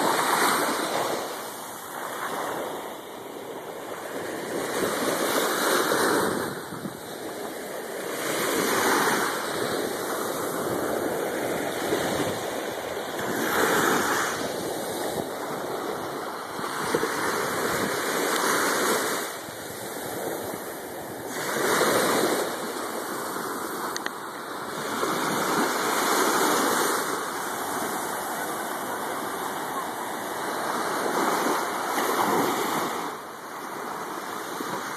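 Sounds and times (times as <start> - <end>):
small waves washing over sand: 0.0 - 34.9.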